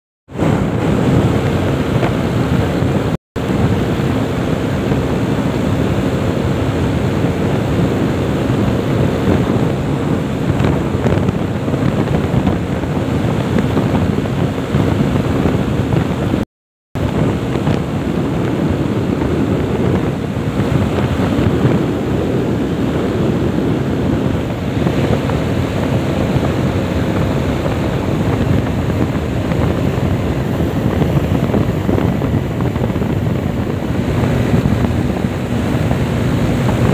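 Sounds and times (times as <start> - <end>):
motorcycle engine drone: 0.3 - 16.4, 17.0 - 36.9
wind rushing over microphone: 0.3 - 36.9.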